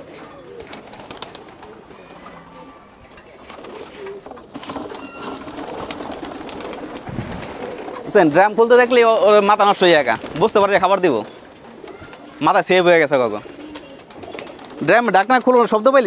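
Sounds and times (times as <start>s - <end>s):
pigeons cooing: 0.0s - 16.0s
wing flaps: 0.5s - 1.9s, 3.4s - 12.4s, 13.4s - 15.9s.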